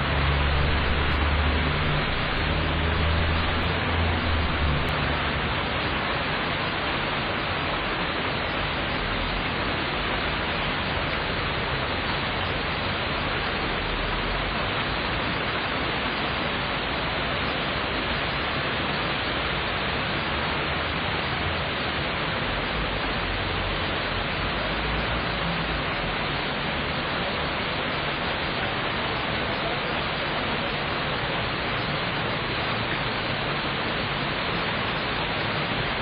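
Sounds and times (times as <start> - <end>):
steady rain hiss: 0.0 - 36.0.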